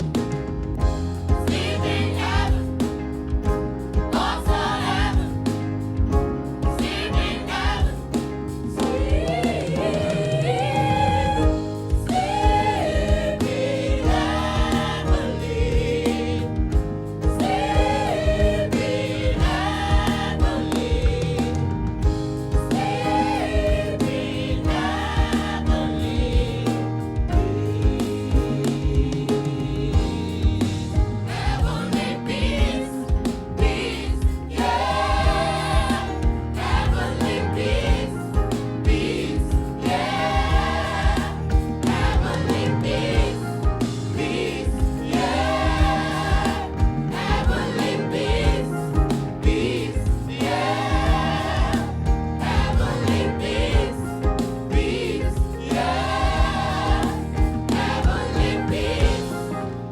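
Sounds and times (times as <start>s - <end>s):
band playing steady beat: 0.0s - 59.9s
gospel choir singing: 0.0s - 59.9s.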